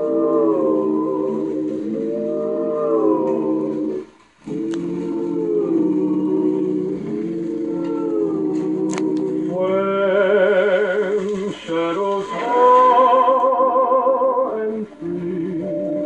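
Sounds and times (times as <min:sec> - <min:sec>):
vocal record playing: 0:00.0 - 0:16.0.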